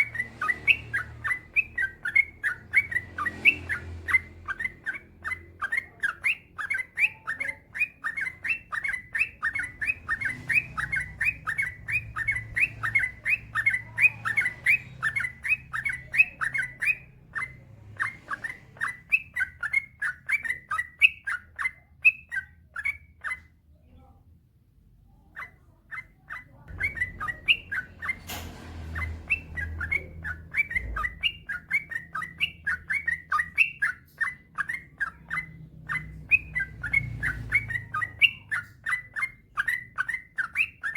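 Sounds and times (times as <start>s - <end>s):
bird singing chirping notes: 0.0s - 24.1s, 25.3s - 40.9s.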